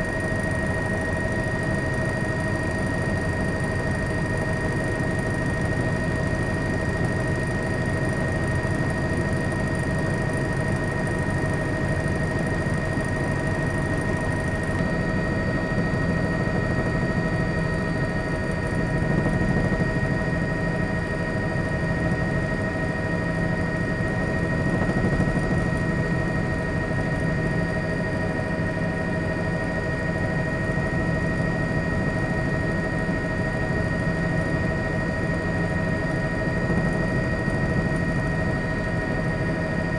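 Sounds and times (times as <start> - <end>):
engine drone with high whine: 0.0 - 39.9.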